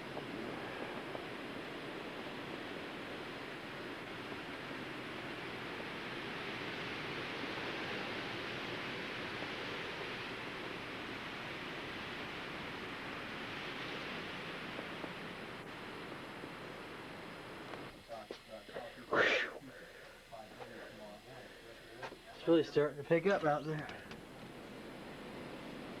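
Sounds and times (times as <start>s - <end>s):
blizzard wind blowing: 0.0s - 23.3s, 23.9s - 26.0s.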